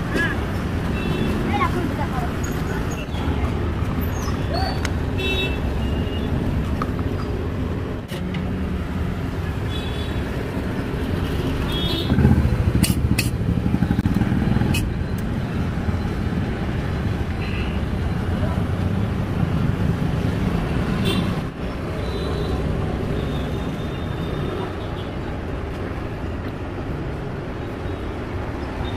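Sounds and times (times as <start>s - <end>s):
roadside traffic noise: 0.0s - 28.9s.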